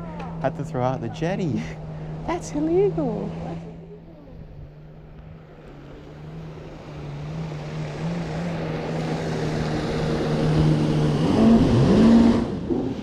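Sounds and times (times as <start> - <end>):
engine running and revving: 0.0 - 13.0.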